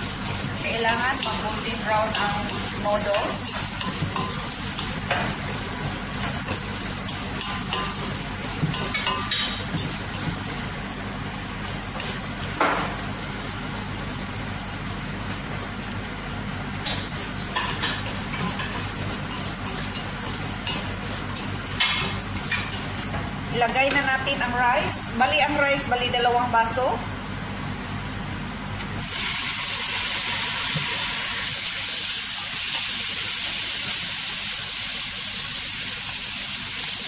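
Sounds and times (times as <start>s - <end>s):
noodles sizzling in oil: 0.0s - 25.8s, 28.9s - 37.0s.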